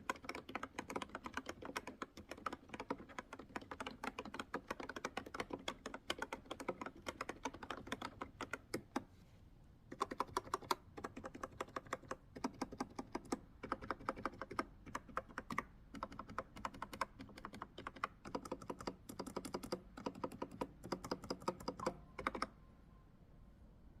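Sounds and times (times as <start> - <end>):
keyboard typing: 0.0 - 9.1, 9.9 - 22.6.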